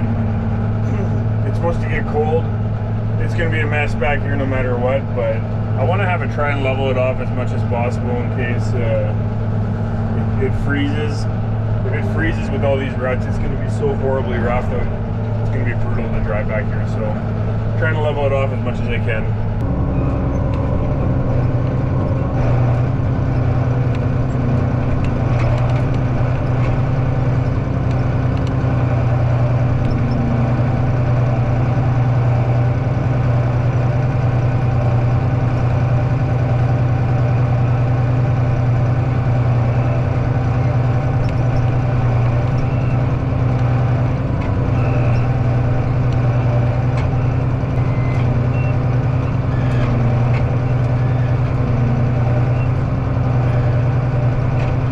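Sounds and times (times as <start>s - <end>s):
farm machine engine droning: 0.0s - 54.9s.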